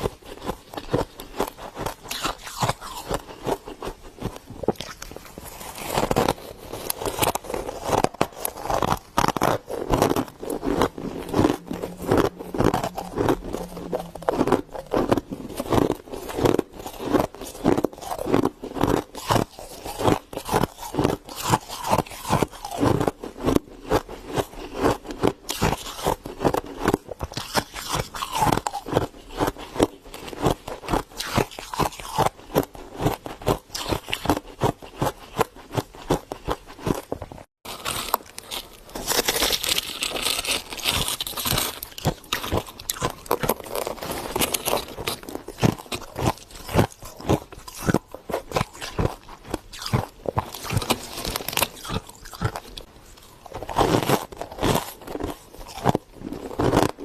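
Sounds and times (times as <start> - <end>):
frost crunching and scraping: 0.0 - 57.0.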